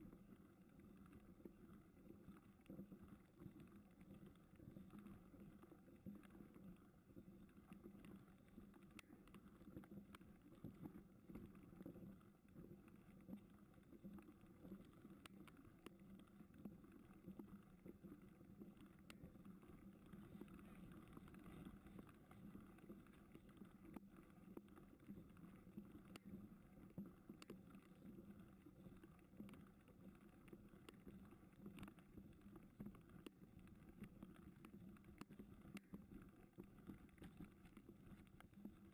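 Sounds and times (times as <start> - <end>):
small clicks and ticks: 0.0 - 38.9.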